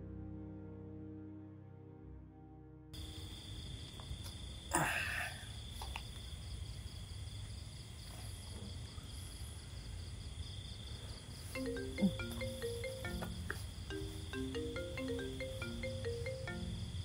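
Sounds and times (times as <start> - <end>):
crickets chirping: 3.0 - 17.0.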